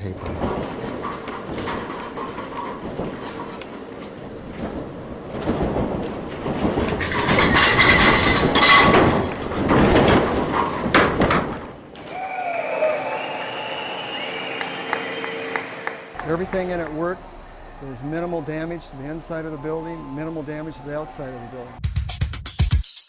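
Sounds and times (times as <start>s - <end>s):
building rattling and banging: 0.0s - 21.4s.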